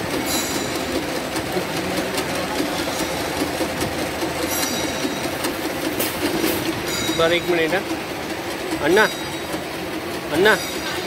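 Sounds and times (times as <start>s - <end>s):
machine mechanical clatter: 0.0s - 11.0s.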